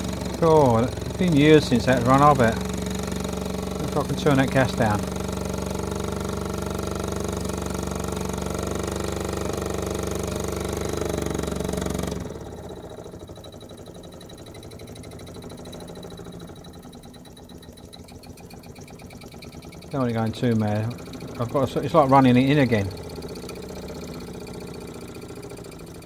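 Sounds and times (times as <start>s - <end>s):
toy steam engine buzzing: 0.0s - 26.0s.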